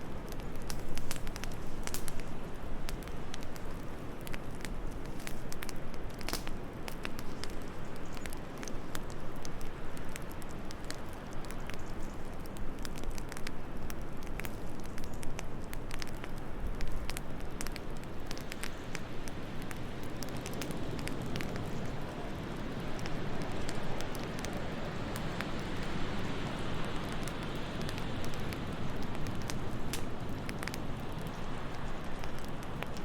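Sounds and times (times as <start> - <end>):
low rush of wind: 0.0 - 33.0
wood fire crackling and popping: 0.0 - 33.0.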